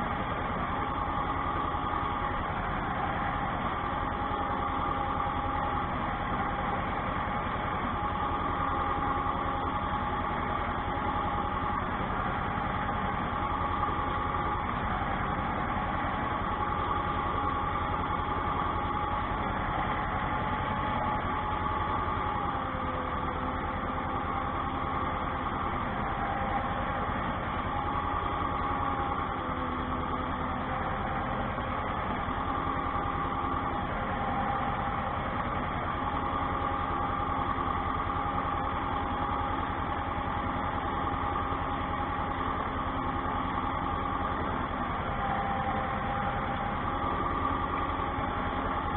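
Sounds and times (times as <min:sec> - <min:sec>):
engine whine: 0:00.0 - 0:48.9
tractor diesel engine running: 0:00.0 - 0:48.9.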